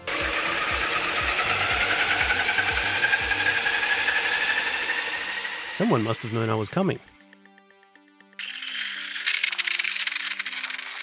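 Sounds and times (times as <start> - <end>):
robot vacuum motor whining: 0.0 - 6.7, 8.4 - 11.0.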